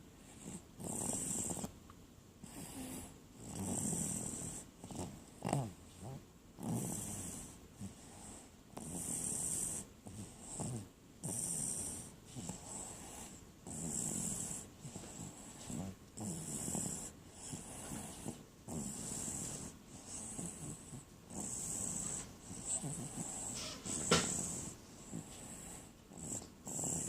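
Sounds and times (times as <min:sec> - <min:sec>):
cat snoring: 0:00.2 - 0:01.7, 0:02.4 - 0:27.0.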